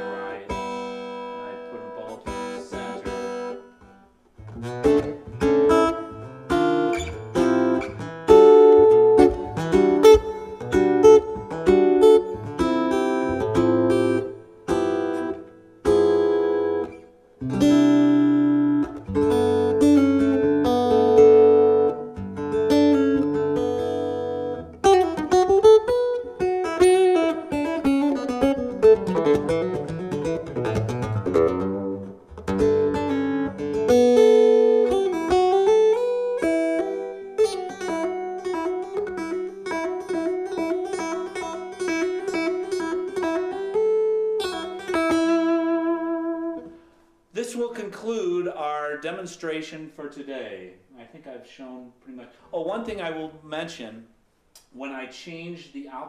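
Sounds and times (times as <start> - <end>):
acoustic guitar strummed chords: 0.0 - 47.1
acoustic guitar picked notes: 0.0 - 49.8.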